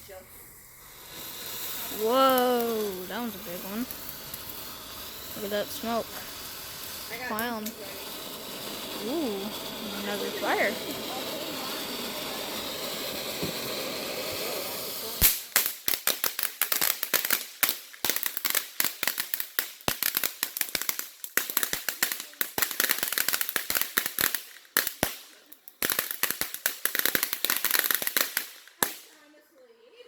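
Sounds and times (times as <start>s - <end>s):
firework hissing and crackling: 0.0s - 29.4s.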